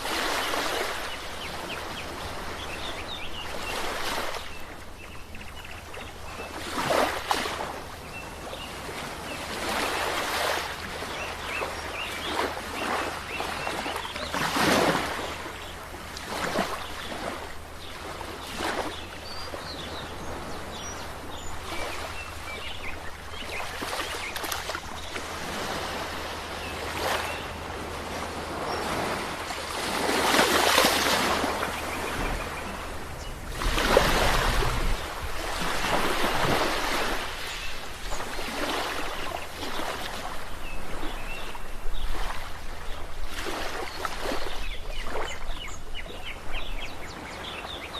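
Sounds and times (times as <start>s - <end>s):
sea waves breaking on shore: 0.0s - 47.9s.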